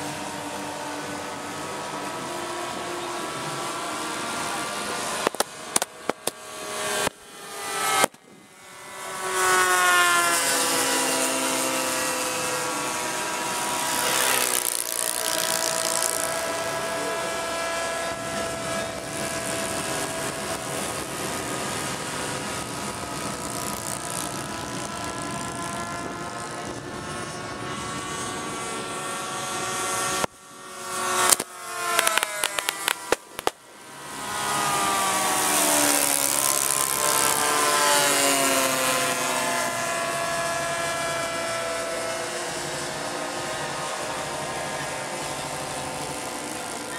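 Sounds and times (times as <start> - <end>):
model plane engines droning past: 0.0 - 46.9.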